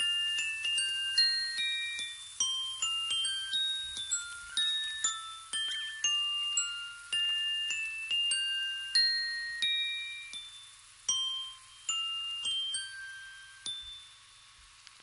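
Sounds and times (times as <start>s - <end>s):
bell-like music box notes: 0.0s - 14.9s.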